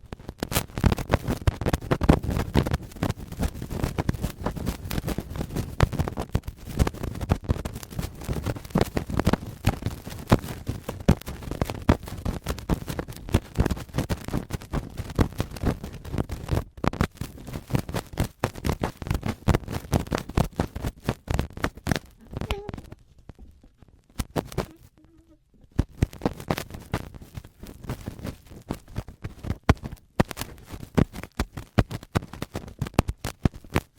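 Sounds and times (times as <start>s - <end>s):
cotton swab scraping microphone: 0.0s - 33.9s.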